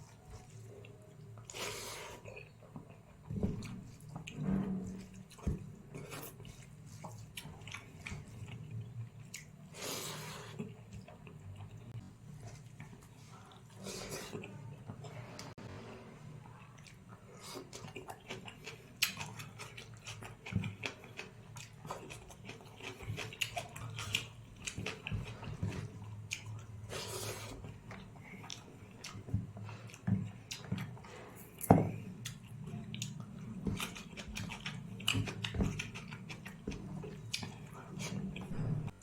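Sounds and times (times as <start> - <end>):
person chewing food: 5.0 - 15.5, 16.4 - 39.0.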